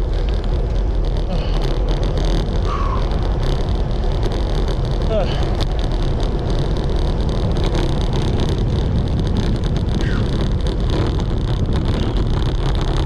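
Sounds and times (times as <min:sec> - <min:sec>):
low ride rumble: 0:00.0 - 0:13.0
wind buffeting microphone: 0:00.0 - 0:13.0.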